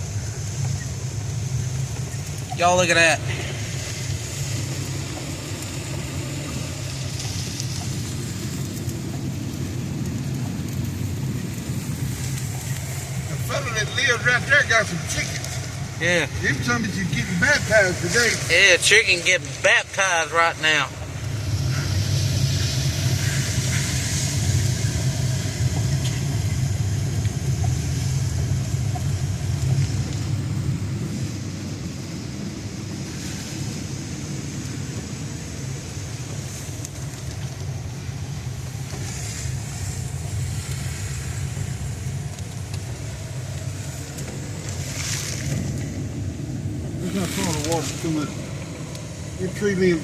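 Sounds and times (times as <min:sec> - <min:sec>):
wind rumbling on microphone: 0:00.0 - 0:50.0
fast river rushing: 0:02.4 - 0:10.3, 0:11.1 - 0:50.0.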